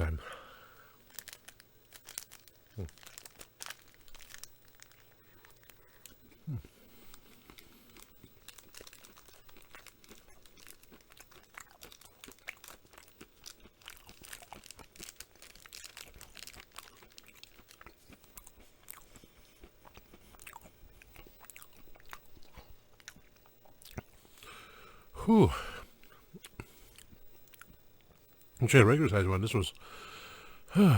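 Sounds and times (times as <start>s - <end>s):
person crunching peanuts: 0.8s - 28.1s.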